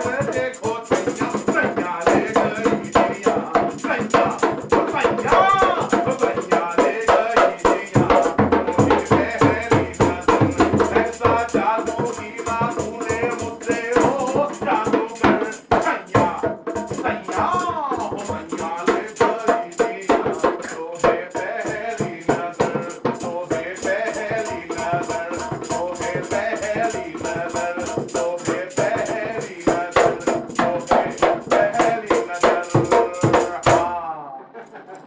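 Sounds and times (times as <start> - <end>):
barrel drum played by hand: 0.0 - 34.0
man singing: 0.0 - 34.6.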